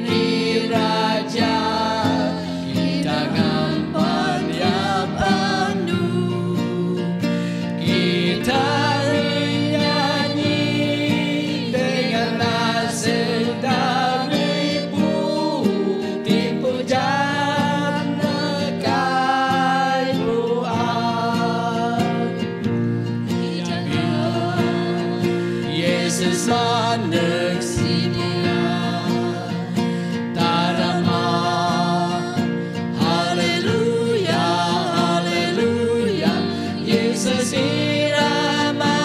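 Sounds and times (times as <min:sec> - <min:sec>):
acoustic guitar: 0:00.0 - 0:39.0
group singing gospel song: 0:00.0 - 0:39.0.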